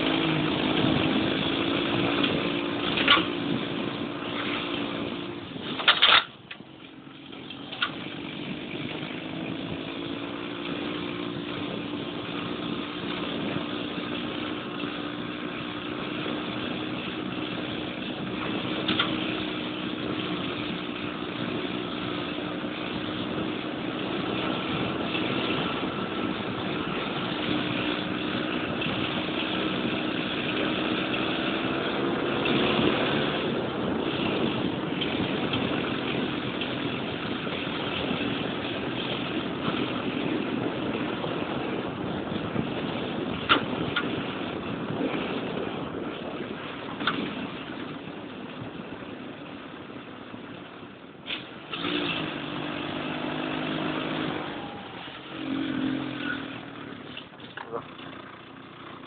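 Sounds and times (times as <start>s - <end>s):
buggy engine running: 0.0s - 59.0s
tyre and driving noise: 0.0s - 59.0s.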